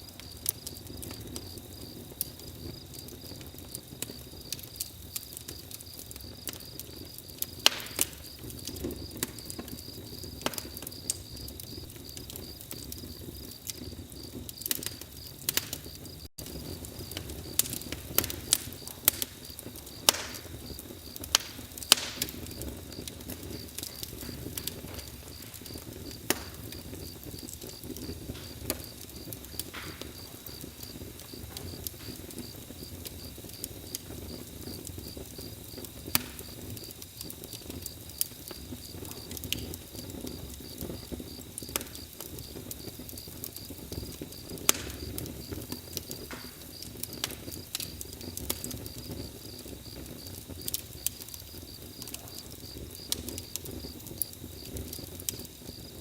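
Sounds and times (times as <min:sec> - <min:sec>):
crickets chirping: 0:00.0 - 0:56.0
wood fire crackling and popping: 0:00.0 - 0:56.0.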